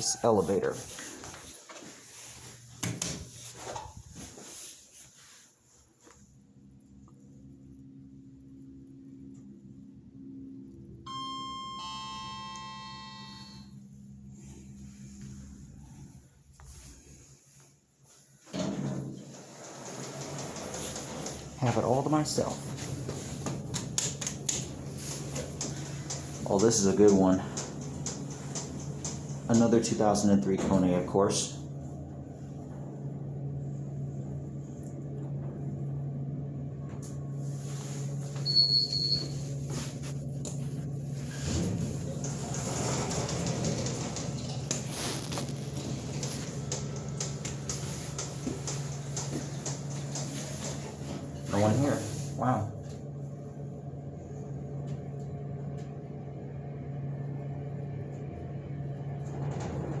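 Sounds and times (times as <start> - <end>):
elevator humming: 0.0 - 60.0.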